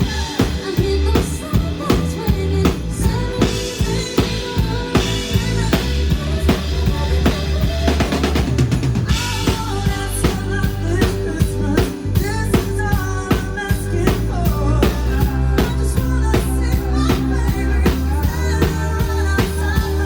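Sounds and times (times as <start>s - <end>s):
drum kit beat: 0.0s - 20.0s
live band through loudspeakers: 0.0s - 20.0s.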